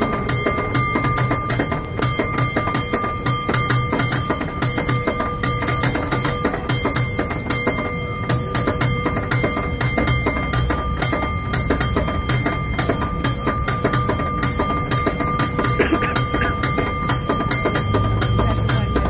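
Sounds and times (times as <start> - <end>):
cable car bell clanging: 0.0 - 19.0.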